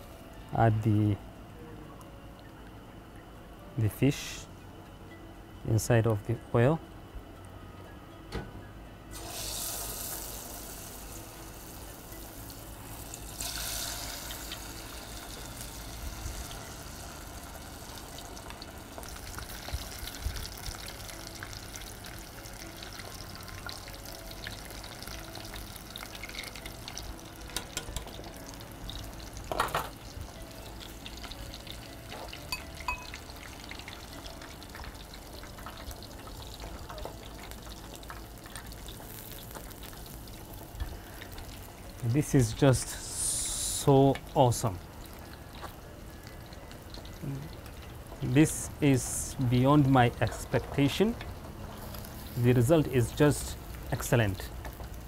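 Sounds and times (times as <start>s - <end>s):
fish deep-frying in oil: 9.1s - 55.0s.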